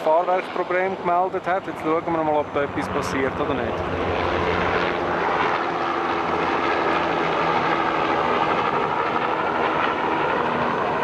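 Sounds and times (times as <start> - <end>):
aircraft engine and propeller: 0.0 - 11.0.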